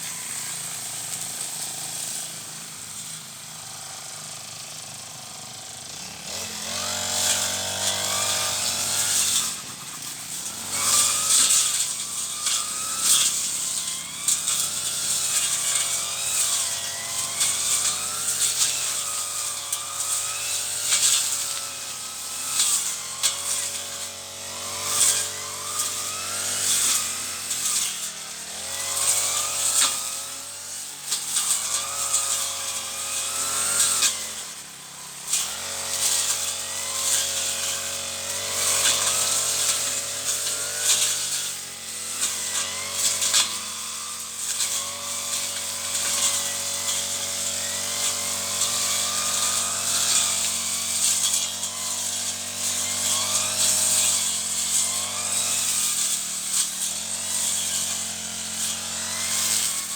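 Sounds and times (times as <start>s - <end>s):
brush cutter engine running: 0.0s - 59.9s.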